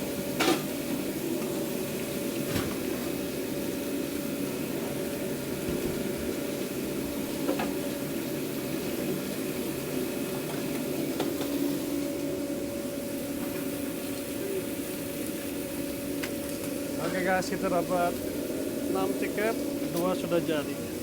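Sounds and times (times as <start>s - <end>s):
kitchen hum and hiss: 0.0s - 21.0s.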